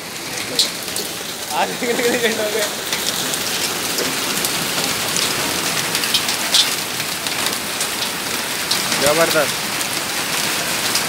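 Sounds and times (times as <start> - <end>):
hailstones ticking: 0.0 - 11.0
heavy rain hissing: 0.0 - 11.0.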